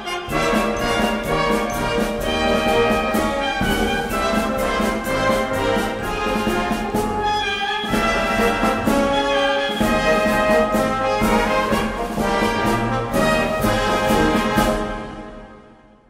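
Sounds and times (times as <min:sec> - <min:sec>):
brass playing held chords: 0:00.0 - 0:15.8
orchestral music: 0:00.0 - 0:16.0.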